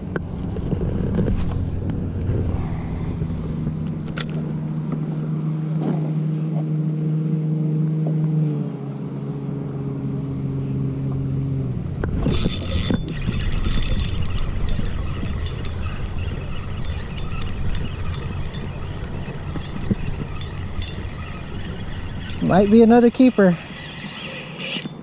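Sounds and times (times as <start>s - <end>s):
motorboat engine humming: 0.0s - 25.0s.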